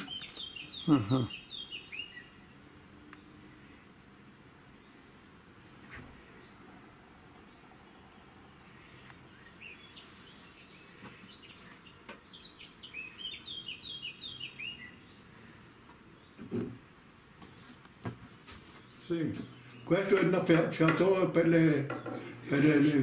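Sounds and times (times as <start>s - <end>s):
songbird singing: 0.0s - 5.1s, 7.2s - 16.8s, 18.7s - 22.8s
faint background noise: 0.0s - 23.0s.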